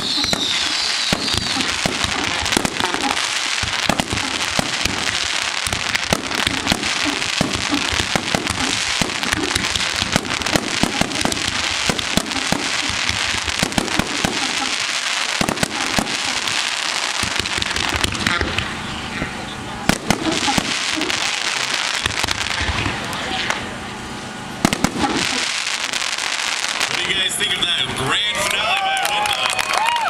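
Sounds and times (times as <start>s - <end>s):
fireworks popping and crackling: 0.0s - 30.0s.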